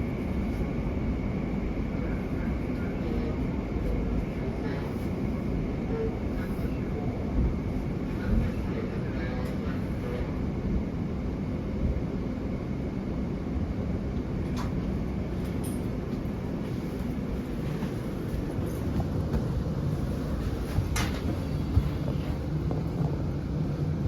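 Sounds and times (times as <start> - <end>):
train cabin rumble: 0.0 - 10.4, 14.0 - 24.0.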